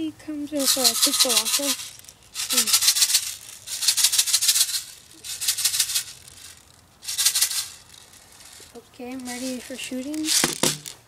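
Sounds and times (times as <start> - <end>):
plastic pellets rattling in container: 0.6 - 11.0.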